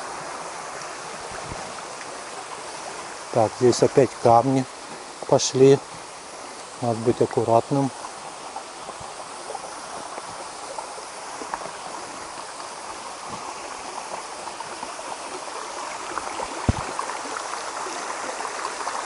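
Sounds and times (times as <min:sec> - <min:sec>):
stream babbling over rocks: 0:00.0 - 0:19.0.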